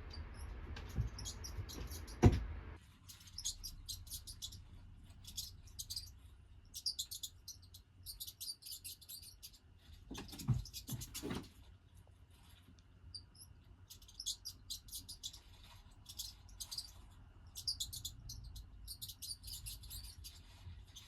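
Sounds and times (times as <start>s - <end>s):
high-pitched squeaks and chirps: 0.0s - 2.3s, 3.0s - 11.4s, 13.1s - 21.0s.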